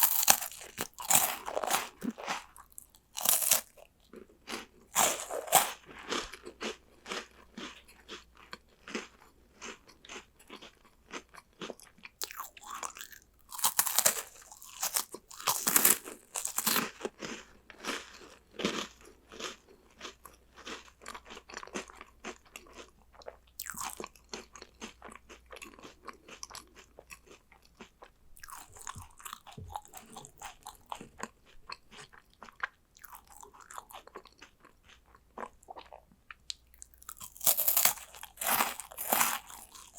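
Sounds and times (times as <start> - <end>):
biting and chewing crunchy snacks: 0.0 - 39.9.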